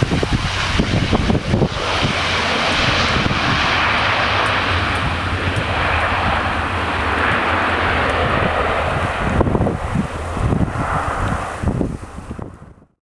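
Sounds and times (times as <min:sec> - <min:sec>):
turboprop engines roaring: 0:00.0 - 0:13.0
wind buffeting microphone: 0:00.0 - 0:13.0.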